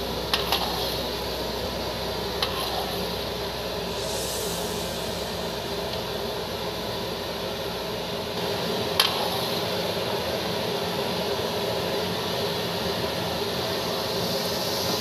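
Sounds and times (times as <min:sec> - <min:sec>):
liquid boiling in wok: 0:00.0 - 0:15.0.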